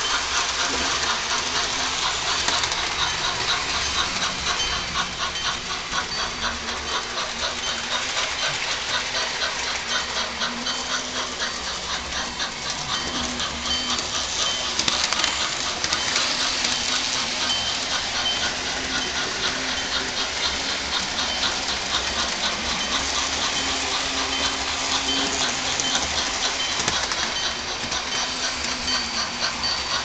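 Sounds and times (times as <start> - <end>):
model train rolling on track: 0.0 - 30.0.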